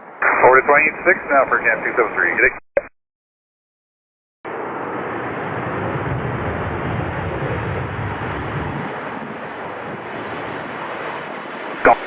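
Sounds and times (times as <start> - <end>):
jet engines roaring: 0.0 - 2.5, 4.5 - 12.0.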